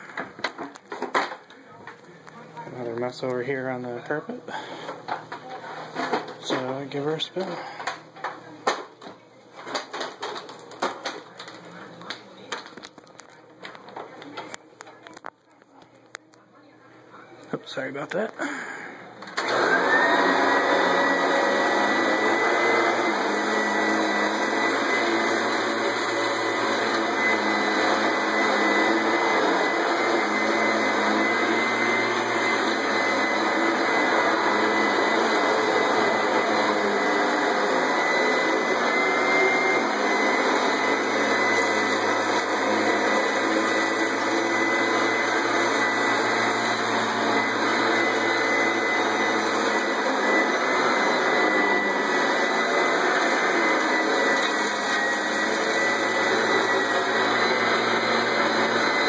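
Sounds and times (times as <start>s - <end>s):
vacuum cleaner running: 0.0s - 14.6s, 16.6s - 59.0s.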